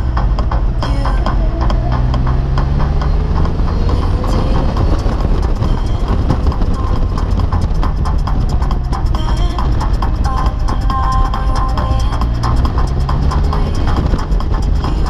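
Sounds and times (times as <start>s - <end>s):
vehicle engine rumble: 0.0s - 15.0s
wind and road noise: 0.0s - 15.0s.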